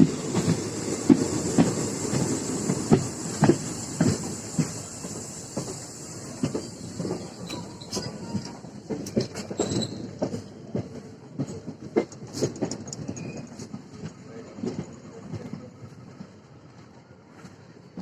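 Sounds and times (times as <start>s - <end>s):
train running rumble: 0.0s - 18.0s
train wheels clattering over rail joints: 0.0s - 18.0s.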